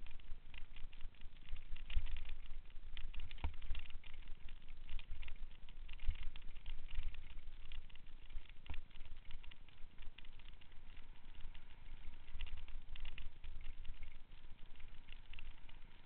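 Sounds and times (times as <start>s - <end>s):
bicycle rattling over dirt trail: 0.0s - 16.0s.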